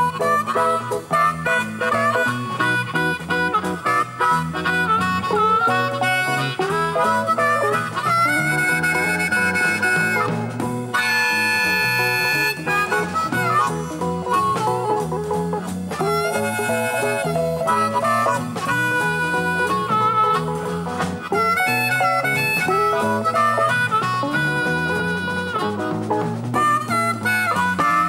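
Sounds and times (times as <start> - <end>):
amplified blues harmonica: 0.0 - 28.0
bass guitar: 0.0 - 28.0
drums: 0.0 - 28.0
electric guitar: 0.0 - 28.0.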